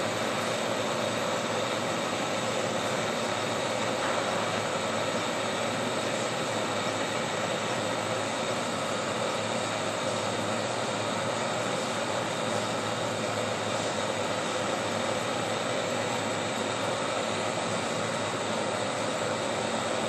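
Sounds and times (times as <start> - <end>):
engine whirring hiss: 0.0 - 20.0.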